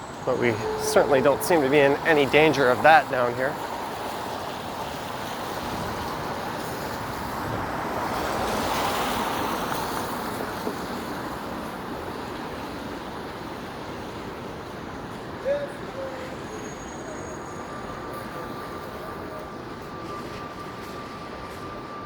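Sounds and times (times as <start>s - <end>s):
tyres hissing on wet road: 0.0s - 21.1s.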